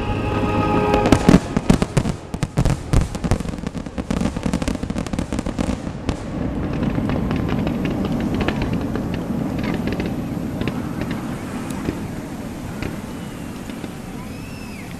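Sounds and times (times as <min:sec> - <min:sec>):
fireworks bangs and crackling: 0:00.0 - 0:14.9.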